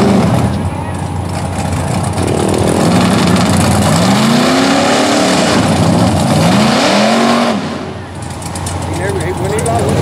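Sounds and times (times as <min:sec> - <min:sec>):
truck engine revving hard: 0:00.0 - 0:08.6.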